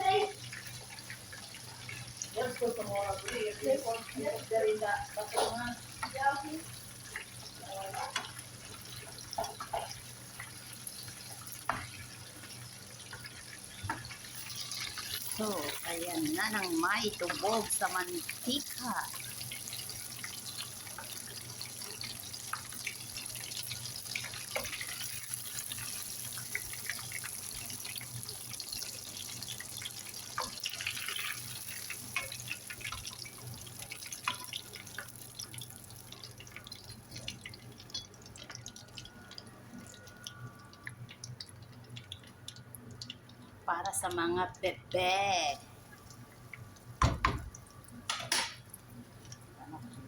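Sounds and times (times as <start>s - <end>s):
chicken deep-frying in oil: 0.0s - 50.0s.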